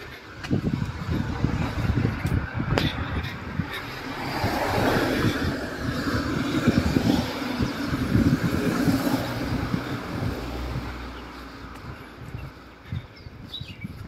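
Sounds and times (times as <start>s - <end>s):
tyres on asphalt: 0.0s - 14.0s.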